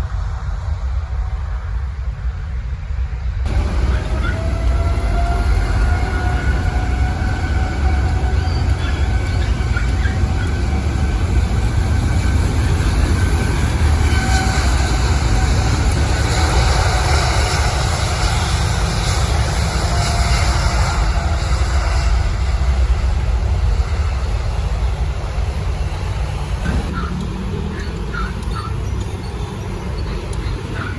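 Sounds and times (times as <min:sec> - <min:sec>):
faint engine whine: 0:00.0 - 0:30.9
jet engines rumbling: 0:00.0 - 0:30.9.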